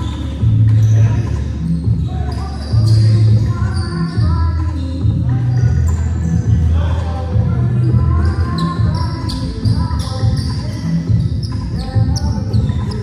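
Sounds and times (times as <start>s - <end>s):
sneakers squeaking: 0.0s - 13.0s.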